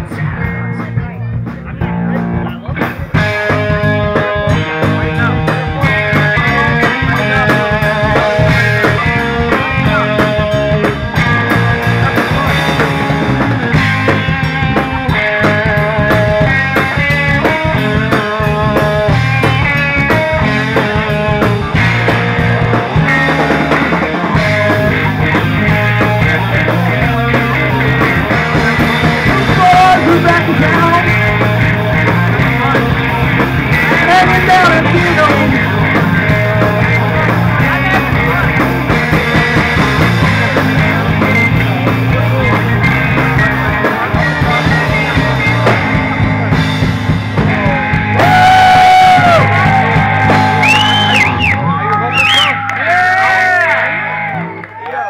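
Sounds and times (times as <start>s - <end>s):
drum kit: 0.0s - 53.9s
electric guitars: 0.0s - 55.0s.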